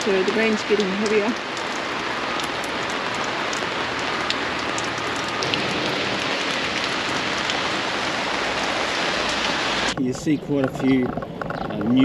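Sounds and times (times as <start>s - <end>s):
heavy rain falling: 0.0s - 12.0s
raindrops striking close by: 0.0s - 12.0s.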